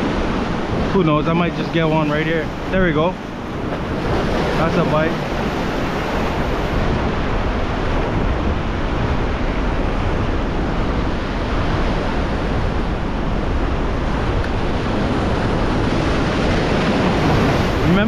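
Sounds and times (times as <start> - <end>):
ocean surf washing in: 0.0 - 18.0
wind rumbling on microphone: 0.0 - 18.0.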